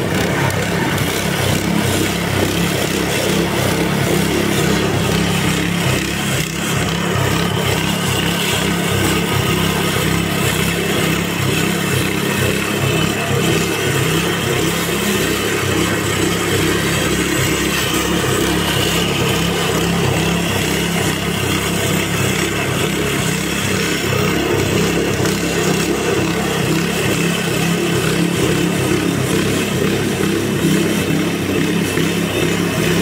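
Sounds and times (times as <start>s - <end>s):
petrol engine running under load: 0.0s - 33.0s.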